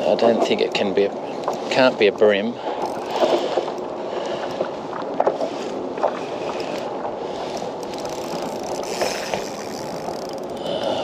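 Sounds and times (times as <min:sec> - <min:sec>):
water lapping against kayak hull: 0:00.0 - 0:11.0
wind: 0:00.0 - 0:11.0.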